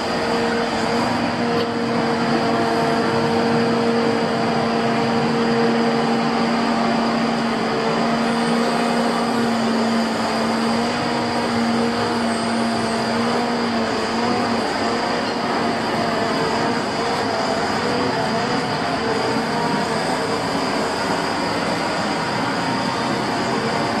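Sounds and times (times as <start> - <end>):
hydraulic crane whine: 0.0 - 24.0
truck engine running: 0.0 - 24.0.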